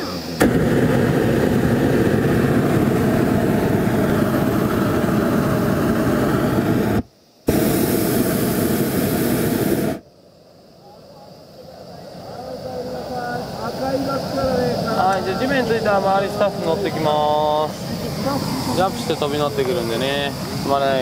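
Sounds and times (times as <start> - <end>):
propane burner firing: 0.0 - 10.1, 11.4 - 21.0.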